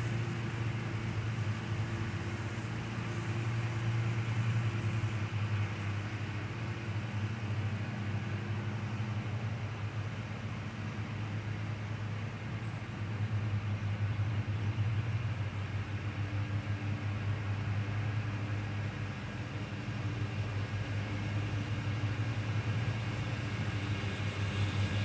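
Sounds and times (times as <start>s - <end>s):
riding mower engines humming: 0.0s - 25.0s.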